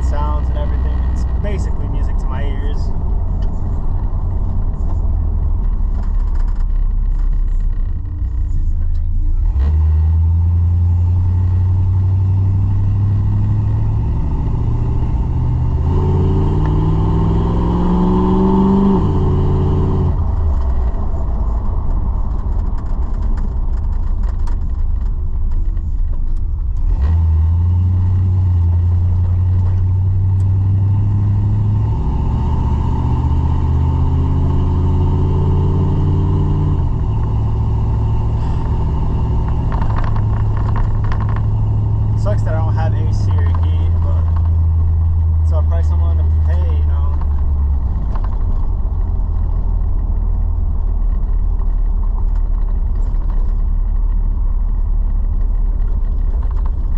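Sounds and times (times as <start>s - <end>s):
truck engine and exhaust driving: 0.0s - 56.9s.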